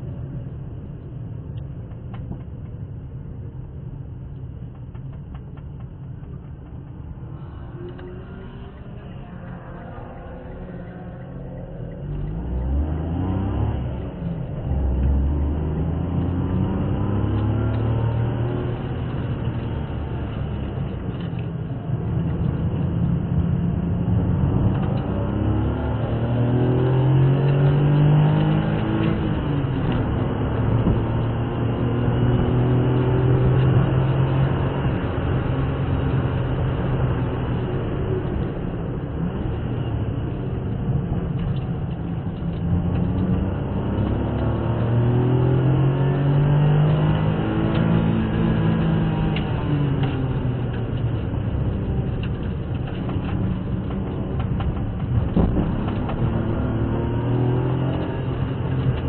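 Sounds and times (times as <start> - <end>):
road and tyre noise: 0.0 - 59.0
car engine revving: 6.4 - 59.0.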